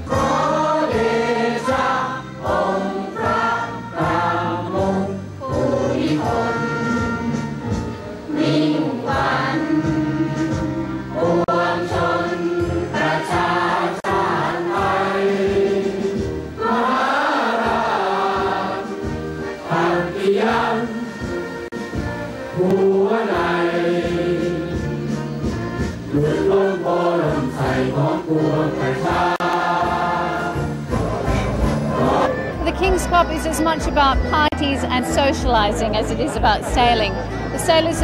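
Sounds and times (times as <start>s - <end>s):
choir singing: 0.0s - 21.7s, 22.6s - 32.9s
musical accompaniment: 0.0s - 38.0s.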